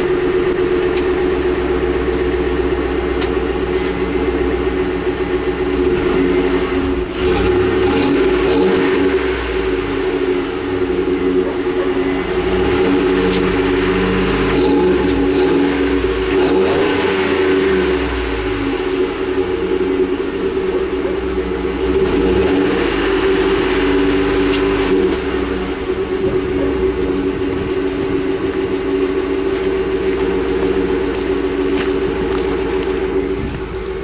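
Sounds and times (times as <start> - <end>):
truck engine exhaust note: 0.0 - 34.0.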